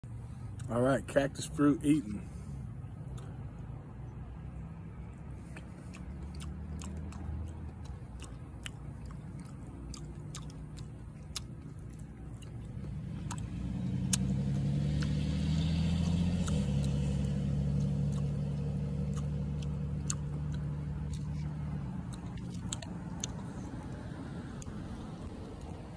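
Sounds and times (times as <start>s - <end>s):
low engine hum: 0.0s - 25.9s
biting and chewing fruit: 1.4s - 25.9s.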